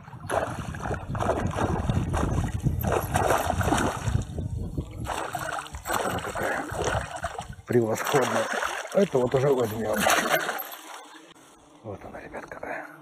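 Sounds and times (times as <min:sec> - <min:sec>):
fish thrashing and splashing water: 0:00.0 - 0:04.4, 0:05.0 - 0:11.2.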